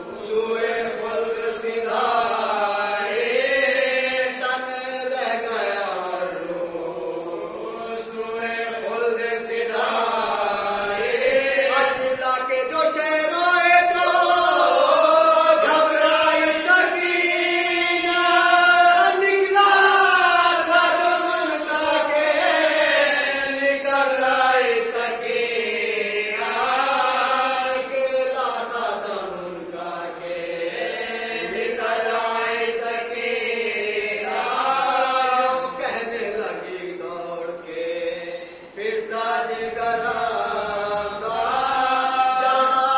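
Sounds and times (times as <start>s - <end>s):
lead reciter chanting: 0.0s - 42.9s
men chanting together: 0.0s - 42.9s.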